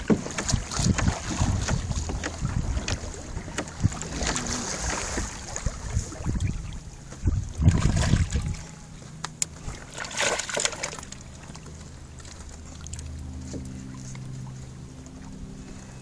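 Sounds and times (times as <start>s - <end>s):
water splashing against kayak: 0.0s - 15.8s
low rumble: 0.0s - 16.0s
low steady hum: 0.0s - 16.0s.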